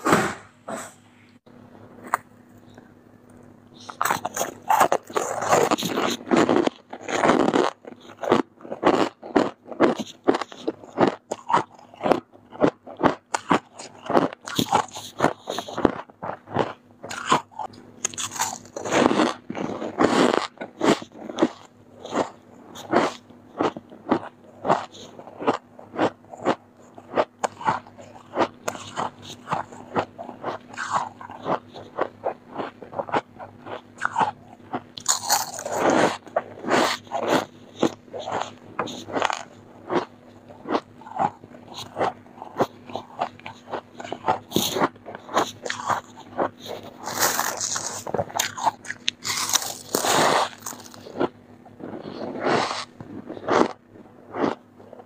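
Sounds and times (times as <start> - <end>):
icy frost crunching in mouth: 3.8 - 55.0.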